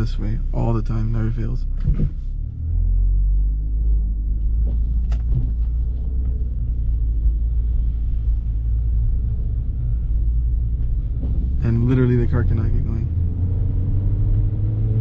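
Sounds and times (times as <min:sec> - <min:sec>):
car engine deep rumble: 0:00.0 - 0:15.0.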